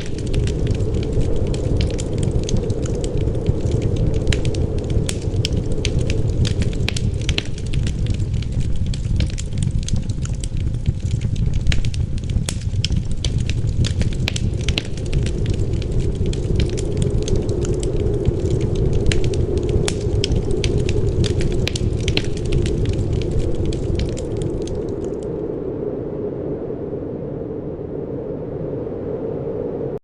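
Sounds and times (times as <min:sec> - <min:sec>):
wood fire crackling: 0:00.0 - 0:25.5
wind rushing: 0:00.0 - 0:30.0.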